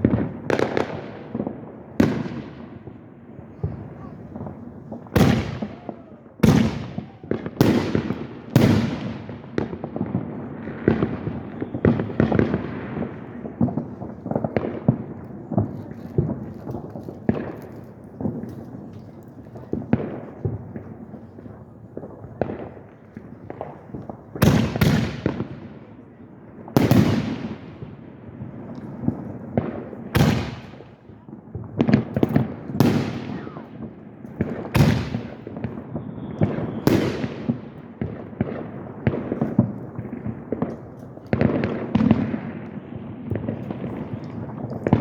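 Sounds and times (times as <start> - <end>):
fireworks booming with echo: 0.0 - 45.0
fireworks crackling: 0.0 - 45.0.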